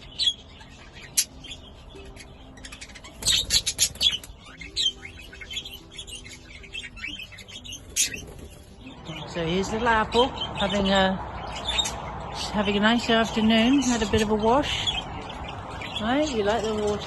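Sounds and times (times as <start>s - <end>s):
budgerigars chirping and chattering: 0.0s - 17.0s.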